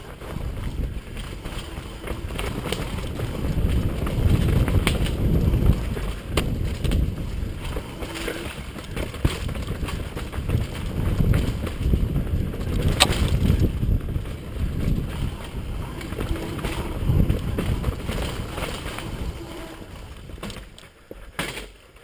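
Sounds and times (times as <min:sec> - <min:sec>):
wind buffeting microphone: 0:00.0 - 0:20.8
bike knocks and rattles: 0:00.0 - 0:22.0
bike rumbling down dirt trail: 0:00.0 - 0:22.0.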